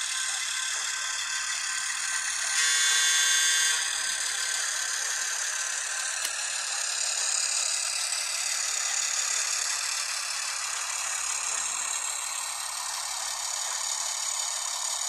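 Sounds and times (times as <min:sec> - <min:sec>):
high-pitched running sound: 0:00.0 - 0:15.0
model train diesel engine sound: 0:00.0 - 0:15.0.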